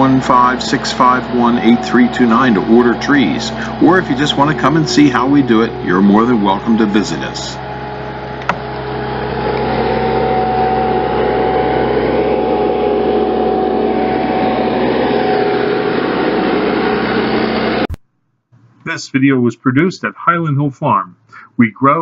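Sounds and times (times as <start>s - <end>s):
engine running: 0.0s - 17.9s
hydraulic whine: 0.0s - 17.9s.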